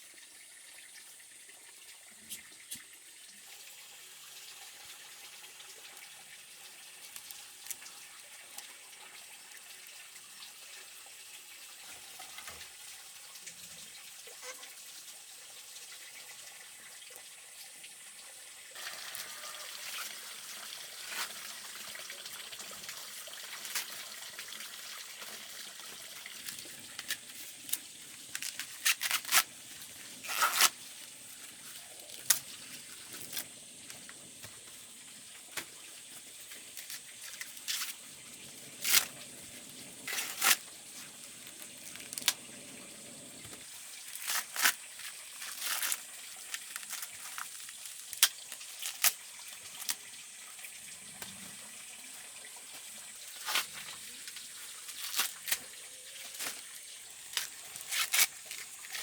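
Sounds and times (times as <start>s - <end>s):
water running: 0.0s - 59.0s.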